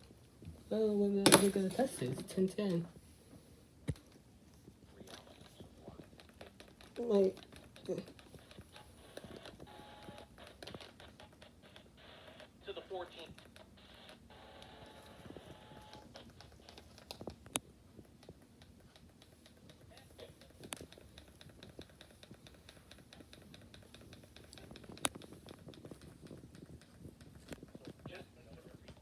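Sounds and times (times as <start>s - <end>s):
faint rapid clicking and tapping: 0.0s - 29.0s.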